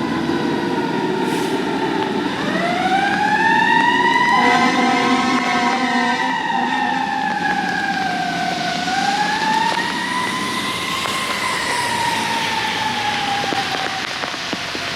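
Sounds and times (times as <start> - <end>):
fire engine siren wailing: 0.0 - 14.9
lower siren tone: 0.0 - 14.9.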